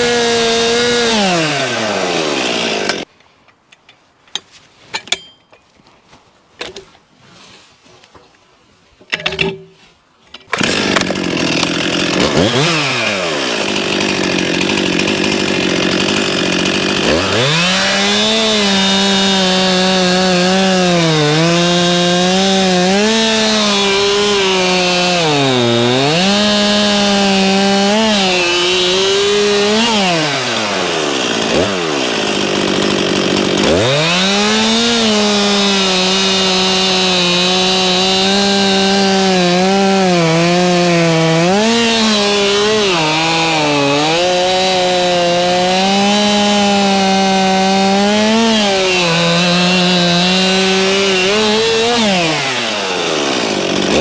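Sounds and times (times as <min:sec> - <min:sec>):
chainsaw revving and cutting wood: 0:00.0 - 0:03.1, 0:10.5 - 0:54.0.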